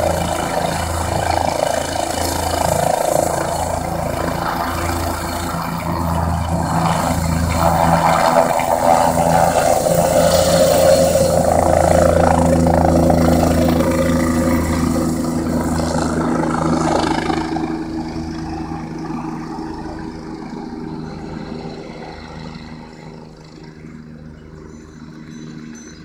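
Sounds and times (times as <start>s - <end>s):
helicopter rotors and engine: 0.0s - 26.0s.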